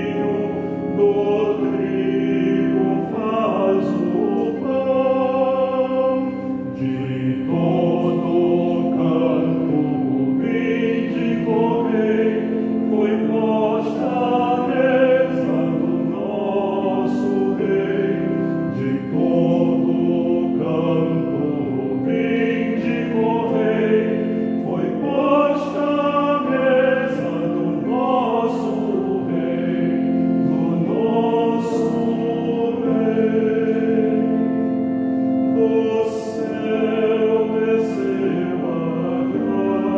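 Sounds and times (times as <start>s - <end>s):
choir singing a hymn: 0.0s - 39.9s
held-chord accompaniment: 0.0s - 39.9s.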